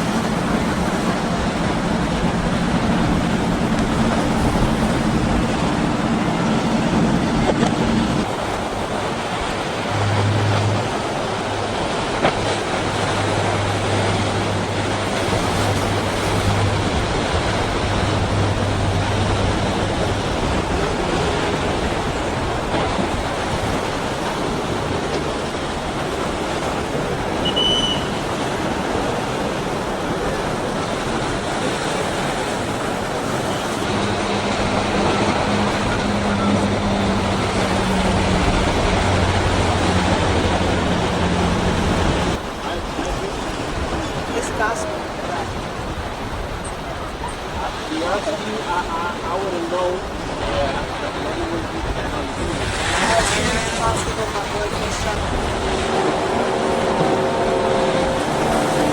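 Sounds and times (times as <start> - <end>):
motorboat engines running: 0.0 - 58.9
waves and wake washing: 0.0 - 58.9.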